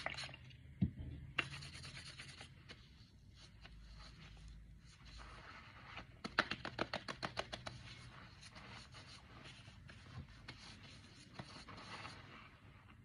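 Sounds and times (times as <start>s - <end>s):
gloved hands rubbing beard: 1.4s - 12.8s.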